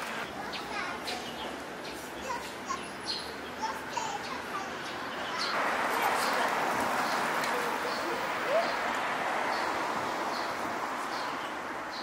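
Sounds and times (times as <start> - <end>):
small birds chirping: 0.0 - 12.0
street ambience hiss: 0.0 - 12.0.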